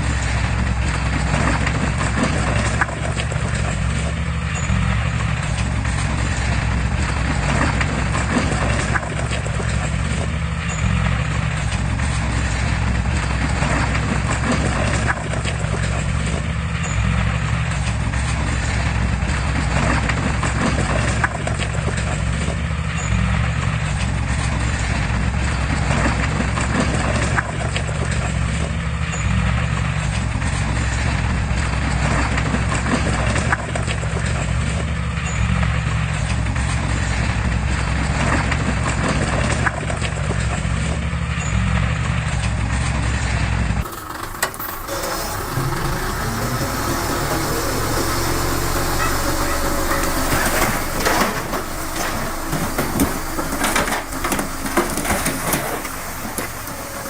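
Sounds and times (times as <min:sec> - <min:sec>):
diesel machine engine running: 0:00.0 - 0:57.0.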